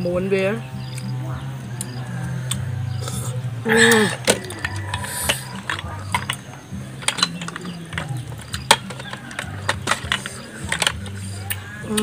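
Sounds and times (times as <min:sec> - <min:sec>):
snail shells clicking on metal tray: 0:01.8 - 0:12.0.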